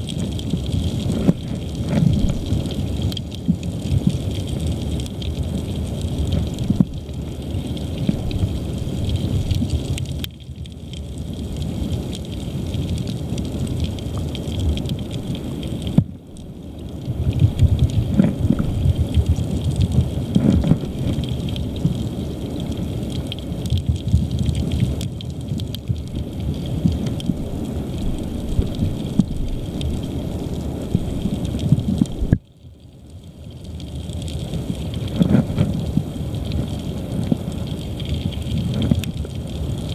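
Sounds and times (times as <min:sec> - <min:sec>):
muffled underwater river current: 0:00.0 - 0:39.9.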